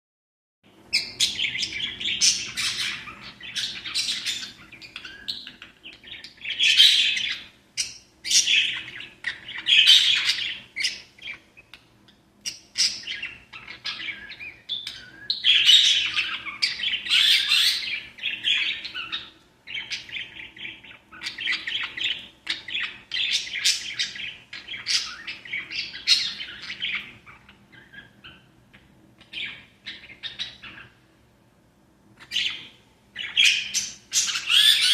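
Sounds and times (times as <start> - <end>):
birds chirping and squawking: 0.8 - 31.2, 32.1 - 34.9.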